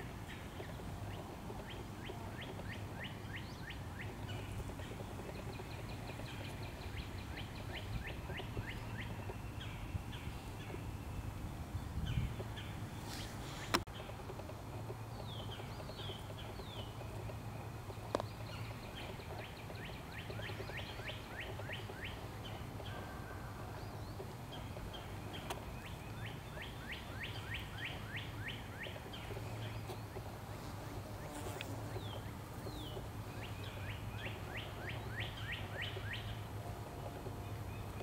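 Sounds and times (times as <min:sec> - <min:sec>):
low background hum: 0:00.0 - 0:38.0.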